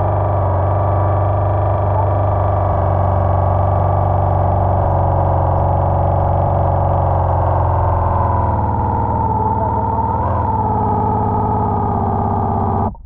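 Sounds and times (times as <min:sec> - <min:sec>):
underwater motor buzzing hum: 0:00.0 - 0:13.0.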